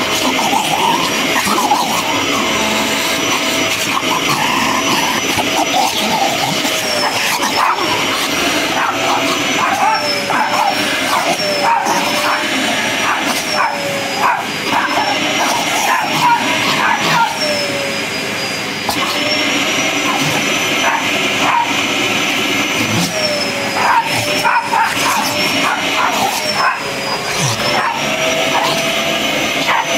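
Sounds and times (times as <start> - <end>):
dogs barking and yipping: 0.0 - 22.0, 22.6 - 29.9
vacuum cleaner motor whine: 0.0 - 29.9.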